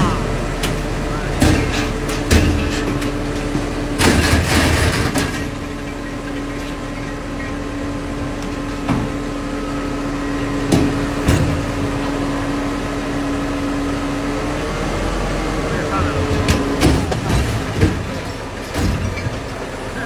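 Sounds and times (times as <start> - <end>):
crane engine hydraulic hum: 0.0 - 20.0.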